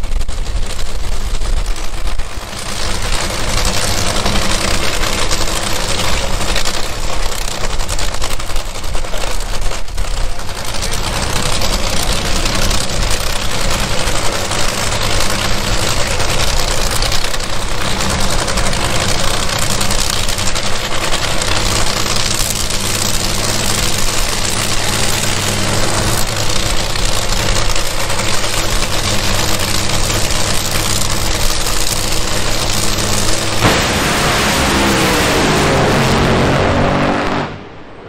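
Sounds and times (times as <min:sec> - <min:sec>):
dragster engine crackling idle: 0:00.0 - 0:36.8.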